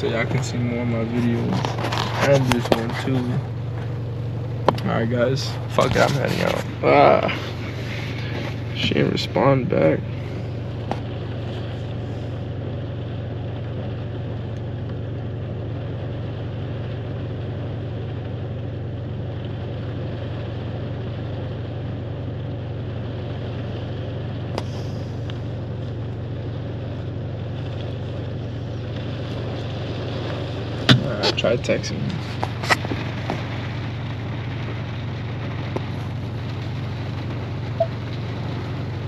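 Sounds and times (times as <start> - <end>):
car engine drone from inside cabin: 0.0 - 39.0.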